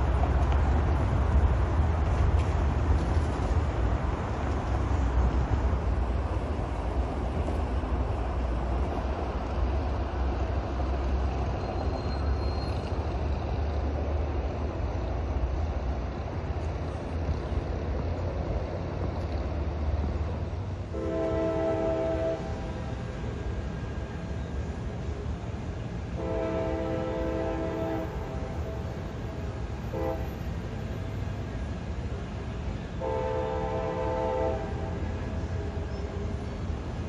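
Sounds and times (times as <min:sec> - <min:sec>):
city street traffic rumble: 0:00.0 - 0:37.0.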